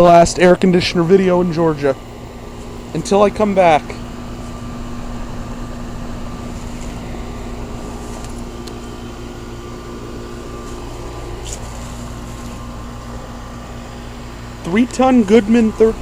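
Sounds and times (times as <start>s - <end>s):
condenser fan whirring: 0.0s - 16.0s
electrical hum: 0.0s - 16.0s.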